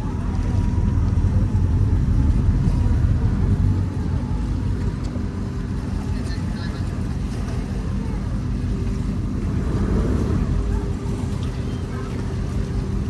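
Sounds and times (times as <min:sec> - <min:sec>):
yacht engines rumbling: 0:00.0 - 0:13.0.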